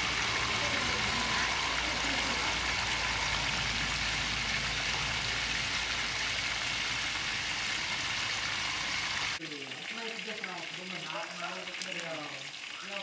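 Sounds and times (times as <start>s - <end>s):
oil sizzling and bubbling: 0.0s - 13.0s.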